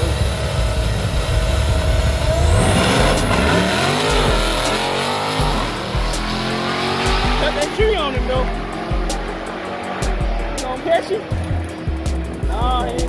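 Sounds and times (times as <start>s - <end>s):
car engines revving and accelerating: 0.0s - 13.0s.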